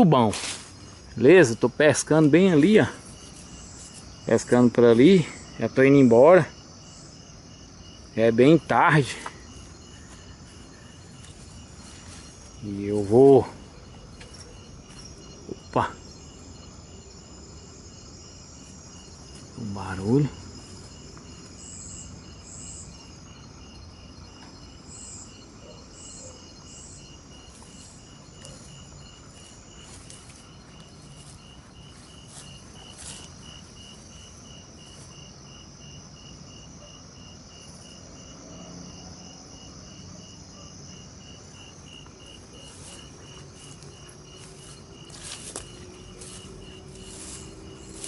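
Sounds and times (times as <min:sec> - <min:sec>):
cricket chirping: 0:00.0 - 0:48.0
high-pitched insect trills: 0:00.0 - 0:48.0.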